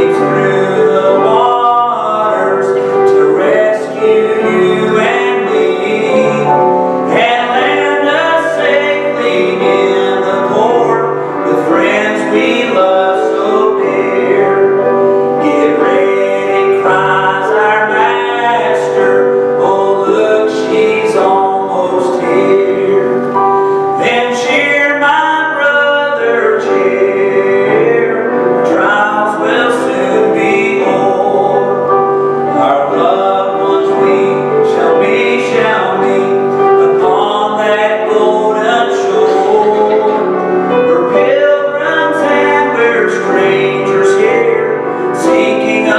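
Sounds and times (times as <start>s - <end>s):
grand piano: 0.0s - 45.9s
man singing gospel song: 0.0s - 45.9s.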